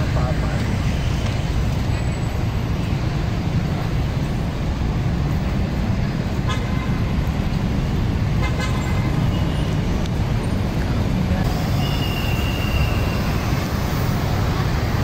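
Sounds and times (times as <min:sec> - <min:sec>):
low rumble of passing cars: 0:00.0 - 0:15.0.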